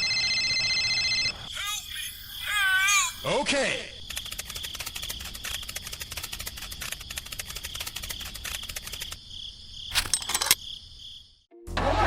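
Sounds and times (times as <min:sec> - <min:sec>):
crickets chirping: 0:01.1 - 0:11.5.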